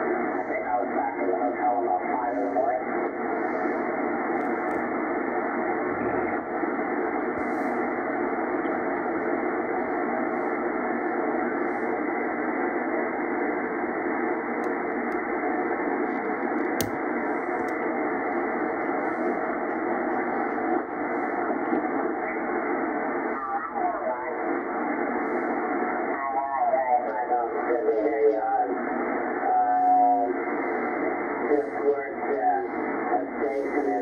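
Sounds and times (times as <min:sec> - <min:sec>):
radio receiver static hiss: 0:00.0 - 0:34.0.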